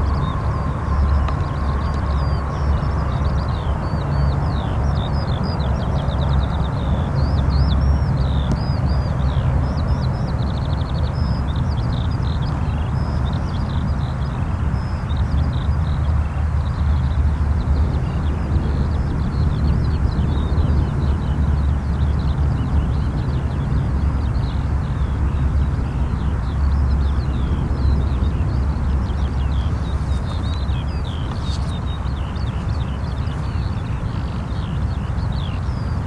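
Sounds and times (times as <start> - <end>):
small birds chirping: 0.0 - 36.0
turboprop engines deep rumble: 0.0 - 36.0.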